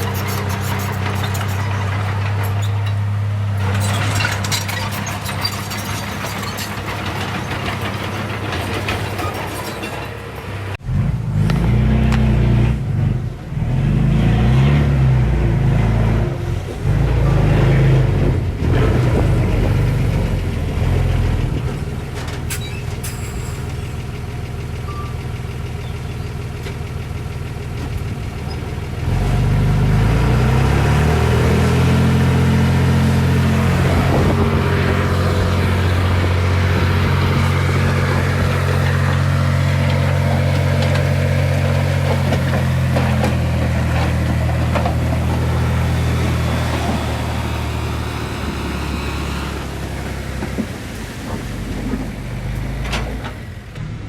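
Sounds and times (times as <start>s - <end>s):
heavy diesel engine working: 0.0s - 54.0s.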